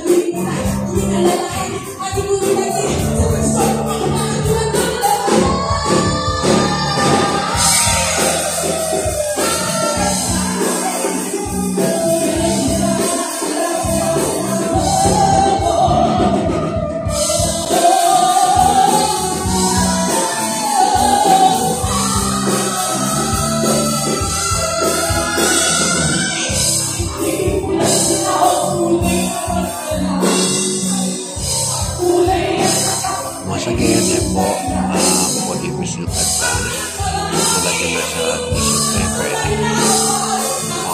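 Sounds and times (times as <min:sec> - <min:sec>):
woman singing: 0:00.0 - 0:35.6, 0:36.4 - 0:40.9
drum kit steady beat: 0:00.0 - 0:40.9
electric guitar: 0:00.0 - 0:40.9.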